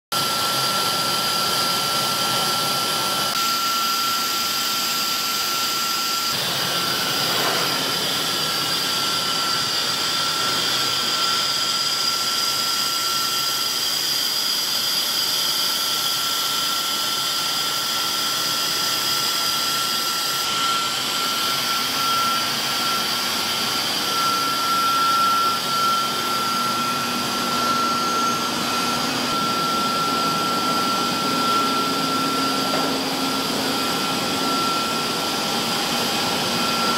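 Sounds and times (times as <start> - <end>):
thin high whine: 0.2 - 36.9.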